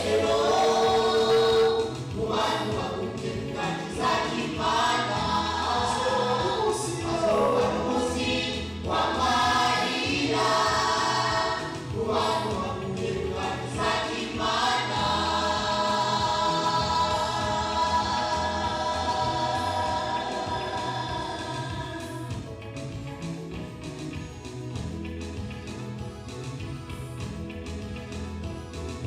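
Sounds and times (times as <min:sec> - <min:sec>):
choir singing gospel music: 0:00.0 - 0:23.8.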